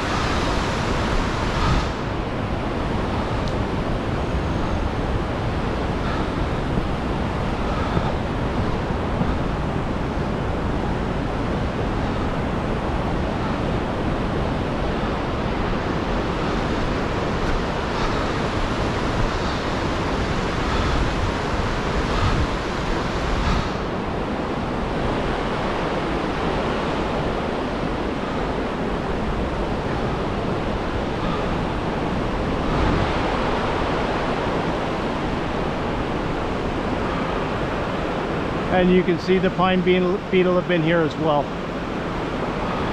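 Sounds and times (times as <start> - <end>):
whitewater rapids rushing: 0.0 - 42.9.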